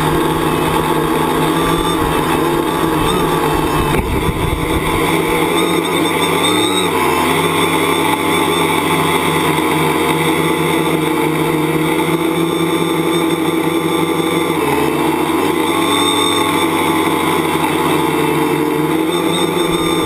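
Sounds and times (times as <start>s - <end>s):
drone motors and propellers: 0.0s - 20.0s.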